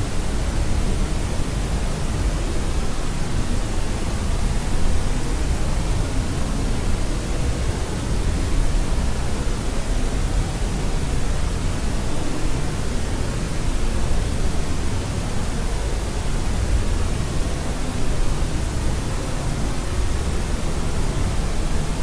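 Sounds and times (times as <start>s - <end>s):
white noise hiss: 0.0s - 22.0s.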